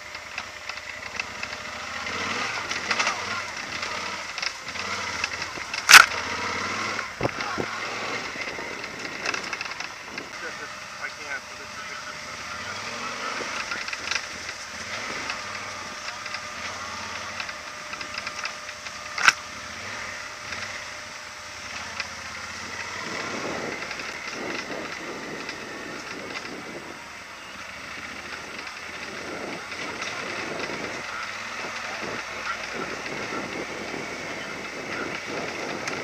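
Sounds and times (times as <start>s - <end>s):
motorcycle engine at low speed: 0.0s - 36.0s
motorcycle rattling and knocking: 0.0s - 36.0s.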